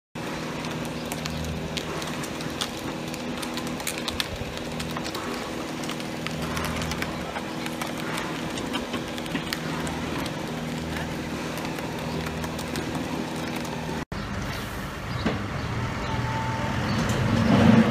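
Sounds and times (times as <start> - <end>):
motor pump engine running: 0.2 - 17.9.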